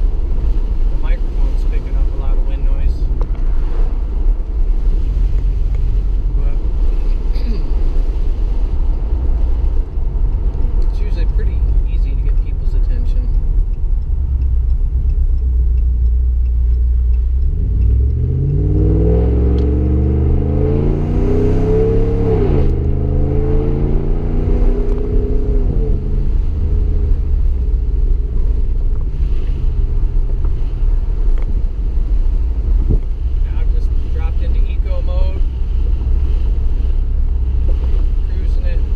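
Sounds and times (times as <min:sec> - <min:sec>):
engine exhaust drone and revving: 0:00.0 - 0:38.9.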